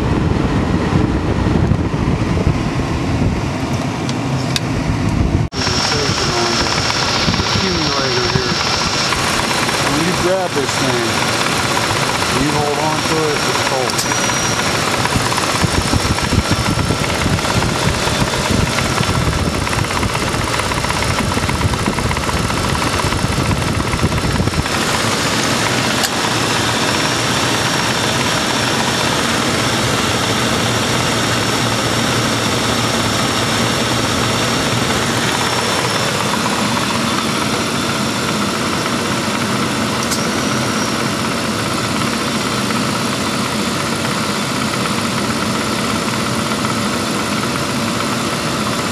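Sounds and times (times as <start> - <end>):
road and engine noise in car: 0.0 - 48.9.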